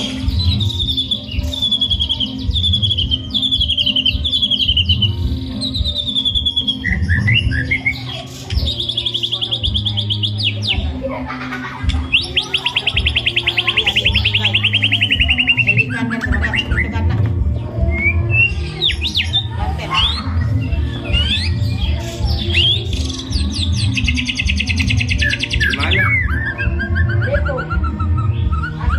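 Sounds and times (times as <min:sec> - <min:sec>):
songbird singing loudly: 0:00.0 - 0:10.8, 0:12.1 - 0:16.9, 0:17.8 - 0:28.9.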